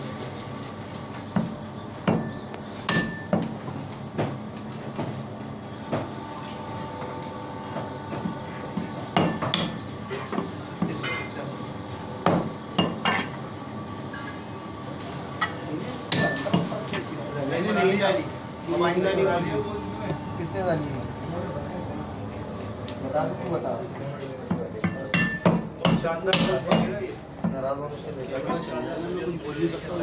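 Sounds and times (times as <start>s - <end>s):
steady hum: 1.9s - 30.0s.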